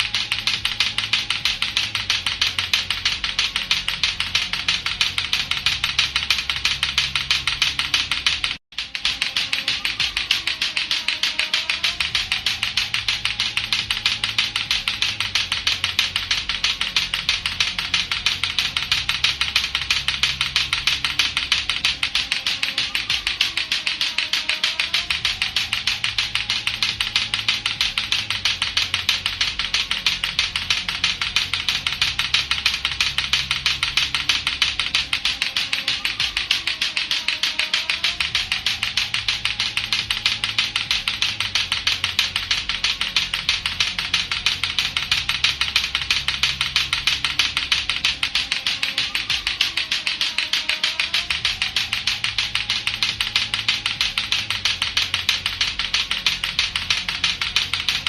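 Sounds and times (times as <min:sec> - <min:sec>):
clacker toy balls clacking: 0:00.0 - 0:58.0
looping background music: 0:00.0 - 0:58.0.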